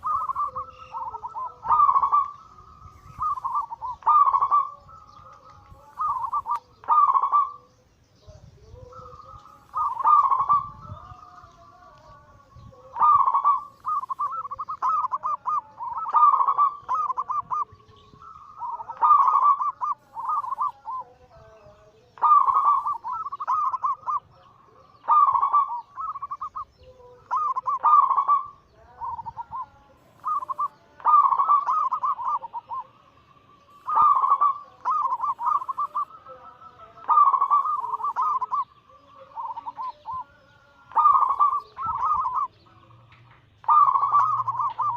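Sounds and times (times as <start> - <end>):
doves cooing: 0.0 - 7.7, 8.6 - 44.9.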